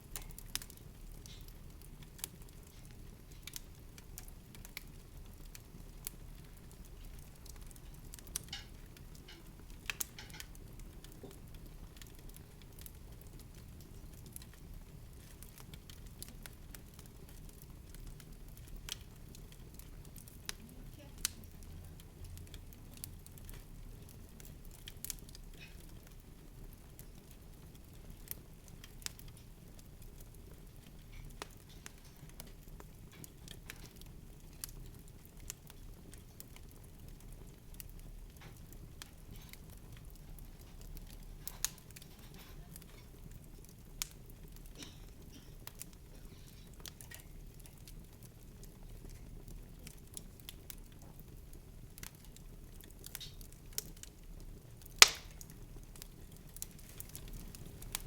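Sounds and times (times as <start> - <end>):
soft clicks and crackles: 0.1 - 58.0.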